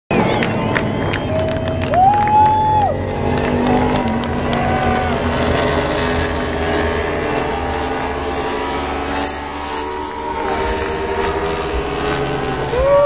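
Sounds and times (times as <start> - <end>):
racing motorcycles passing: 0.1 - 13.0.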